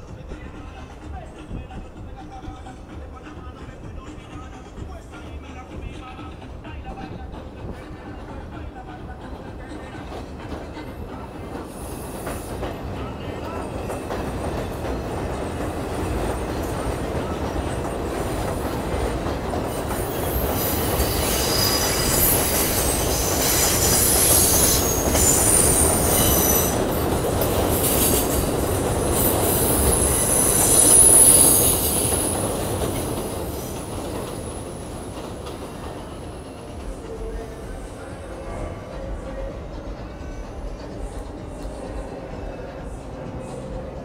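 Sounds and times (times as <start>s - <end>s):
train rumble: 0.0s - 44.0s
train wheels squealing: 7.8s - 44.0s.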